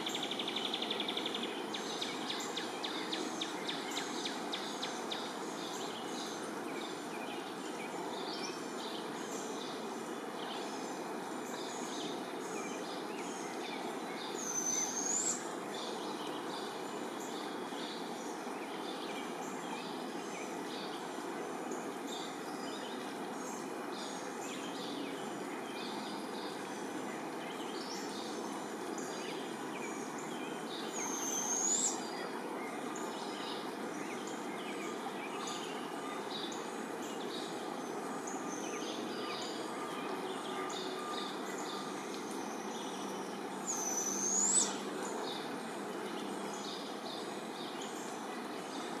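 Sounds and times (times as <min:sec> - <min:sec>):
small songbirds chirping: 0:00.0 - 0:49.0
steady background hiss: 0:00.0 - 0:49.0.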